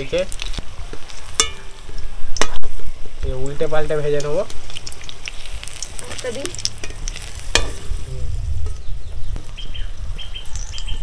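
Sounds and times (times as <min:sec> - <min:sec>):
birds chirping: 0:00.0 - 0:11.0
fritters sizzling in hot oil: 0:00.0 - 0:11.0.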